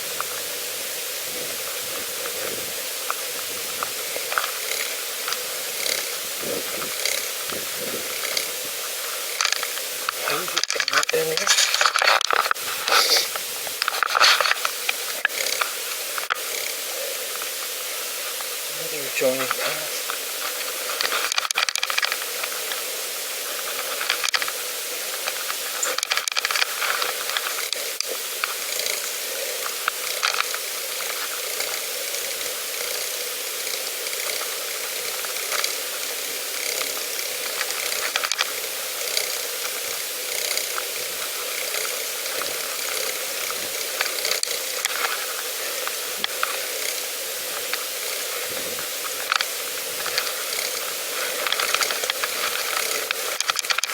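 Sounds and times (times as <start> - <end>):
bike tyres hissing: 0.0 - 53.9
crackles and clicks: 0.0 - 53.9.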